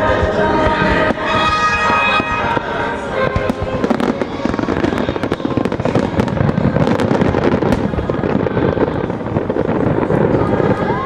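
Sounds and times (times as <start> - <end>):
fireworks cracks and booms: 0.0 - 11.0.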